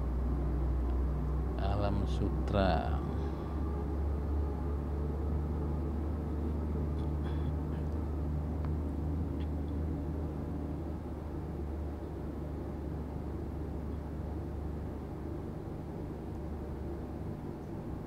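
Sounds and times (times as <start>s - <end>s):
vehicle engine hum and road noise: 0.0s - 18.0s.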